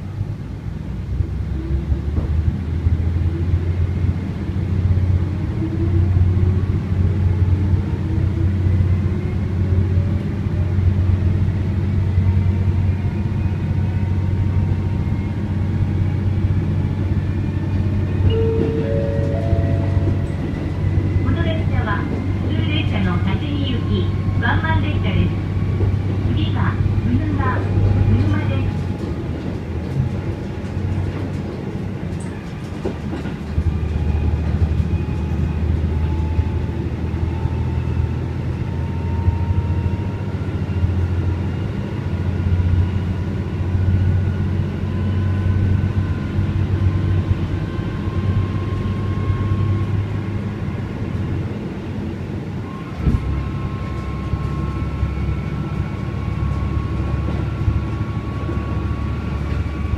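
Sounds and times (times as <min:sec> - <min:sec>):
railcar engine drone: 0:00.0 - 0:59.9.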